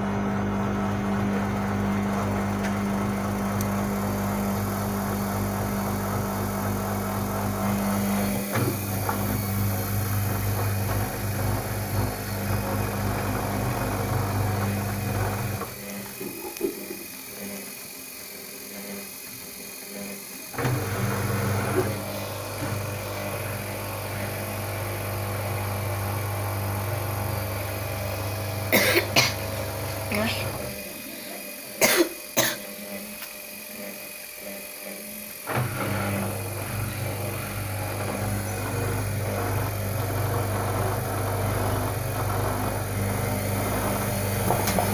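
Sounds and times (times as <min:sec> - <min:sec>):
washing machine motor hum: 0:00.0 - 0:44.9.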